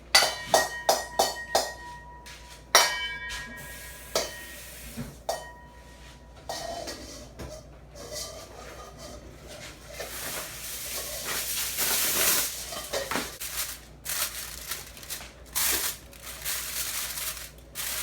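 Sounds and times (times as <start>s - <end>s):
kitchenware clinking: 0.2s - 4.6s, 5.2s - 18.0s.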